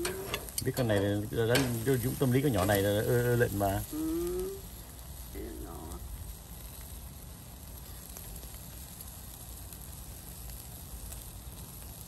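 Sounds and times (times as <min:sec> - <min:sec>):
faint crackles: 0:00.0 - 0:12.0
meat sizzling on a grill: 0:00.0 - 0:12.0.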